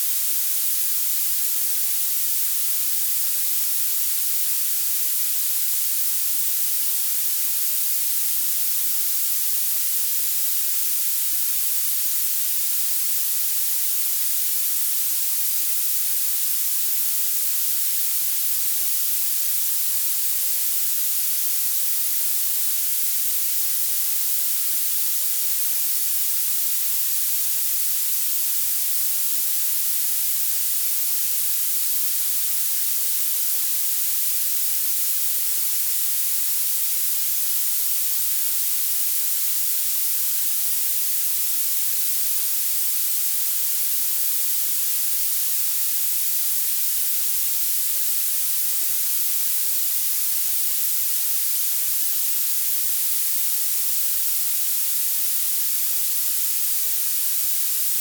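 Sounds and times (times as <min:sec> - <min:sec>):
high-pitched steady hiss: 0:00.0 - 0:58.0.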